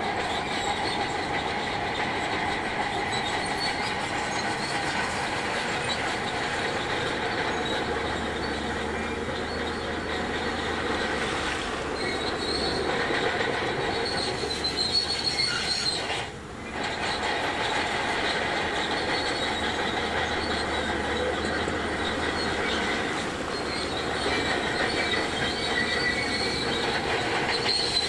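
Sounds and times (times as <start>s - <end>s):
bulldozer engine under load: 0.0s - 28.0s
steel tracks squealing and clattering: 0.0s - 28.0s.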